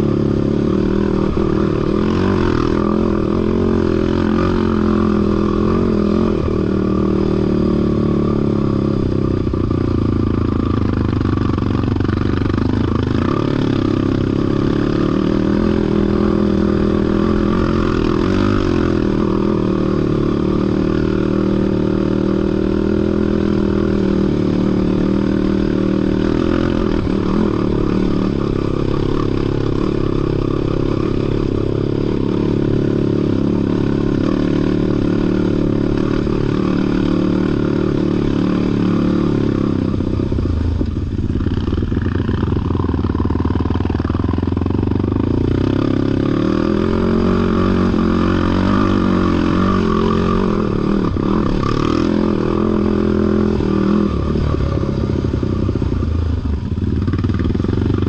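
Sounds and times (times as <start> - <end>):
vehicle engine revving: 0.0 - 58.0.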